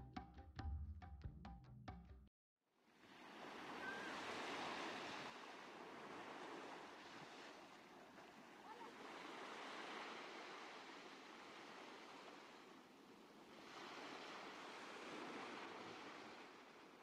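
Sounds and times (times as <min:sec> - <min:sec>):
faint ocean surf: 0:02.9 - 0:17.0.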